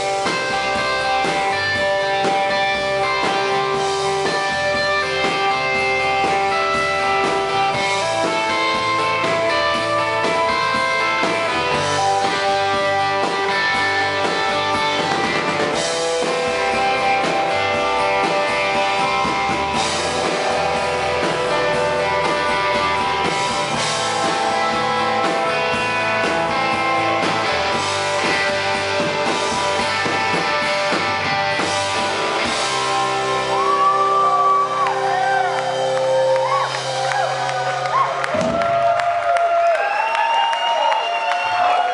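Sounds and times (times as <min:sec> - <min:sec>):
drum kit: 0:00.0 - 0:41.9
electric guitars: 0:00.0 - 0:41.9
rock band playing: 0:00.0 - 0:41.9.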